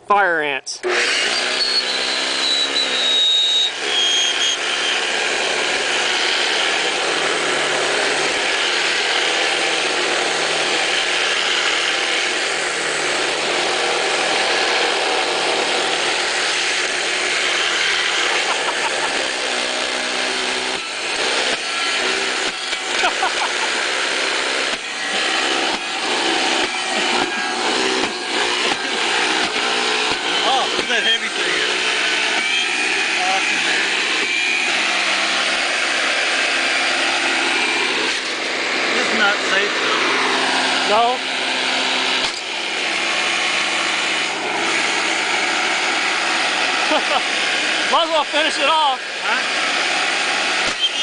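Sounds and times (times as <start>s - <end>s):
vacuum cleaner running: 0.8s - 51.0s.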